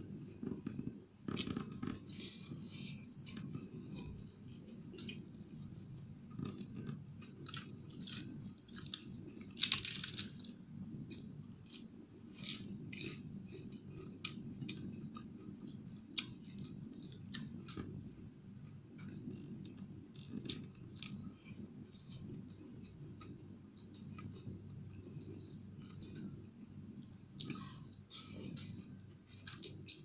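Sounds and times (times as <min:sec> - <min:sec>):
chewing crispy fried fish: 0:00.2 - 0:30.0.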